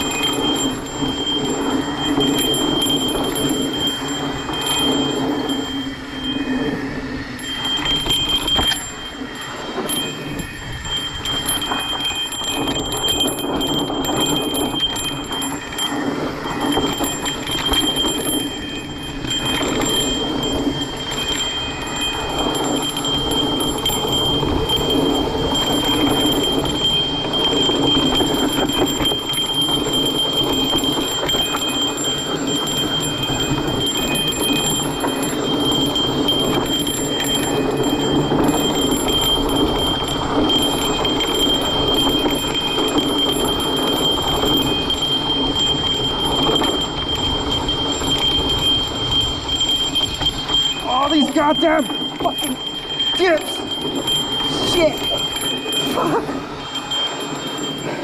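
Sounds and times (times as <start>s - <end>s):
bike rattling over bumps: 0.0s - 58.0s
steady high-pitched whine: 0.0s - 58.0s.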